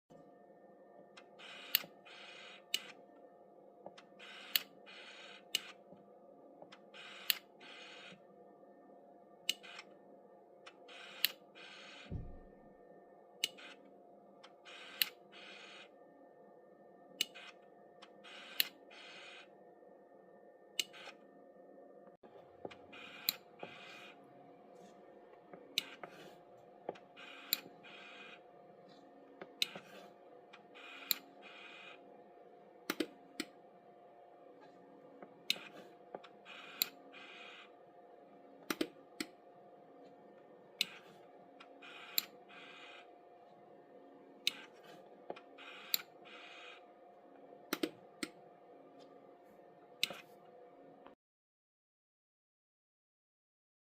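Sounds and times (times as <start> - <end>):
faint steady hum: 0.1 - 51.2.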